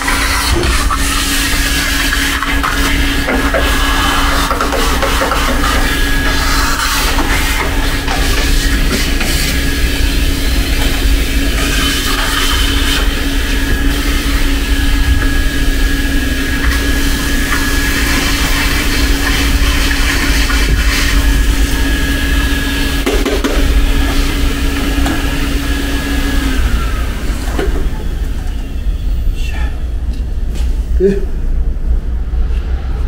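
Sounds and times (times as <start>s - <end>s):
shop vacuum running: 0.0s - 33.0s.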